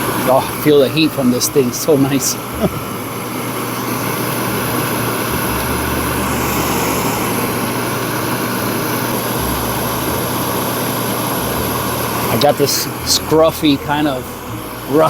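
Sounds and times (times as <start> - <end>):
camp stove burner running: 0.0 - 15.0.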